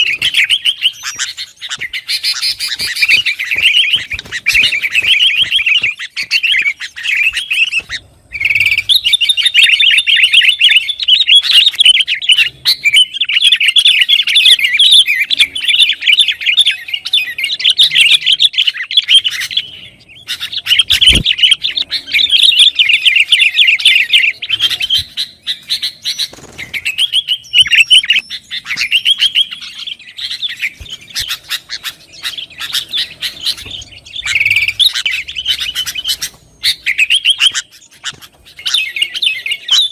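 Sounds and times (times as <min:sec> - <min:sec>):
bird chattering calls: 0:00.0 - 0:39.9.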